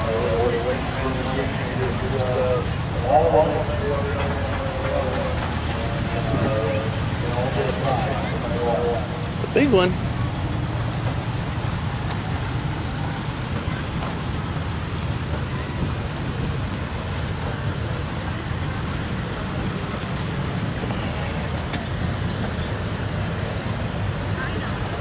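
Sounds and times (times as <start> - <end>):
engine low rumble: 0.0 - 25.0.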